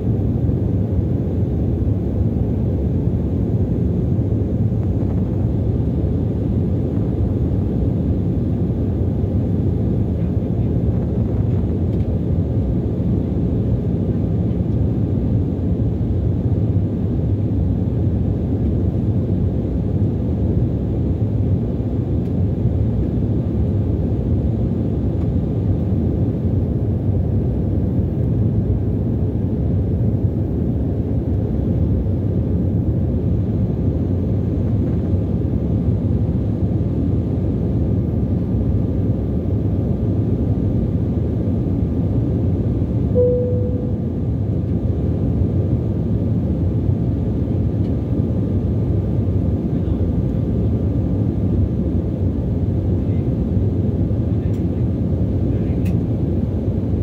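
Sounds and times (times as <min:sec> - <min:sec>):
airflow over the fuselage: 0:00.0 - 0:57.0.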